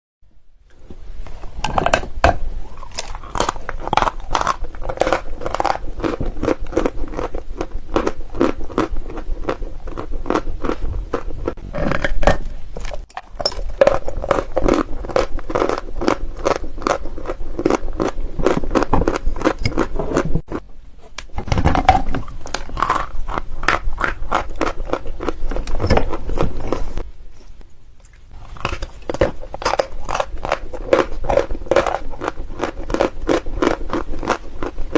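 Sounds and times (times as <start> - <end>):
crunching and chewing chalk: 1.3 - 12.2, 12.8 - 34.9.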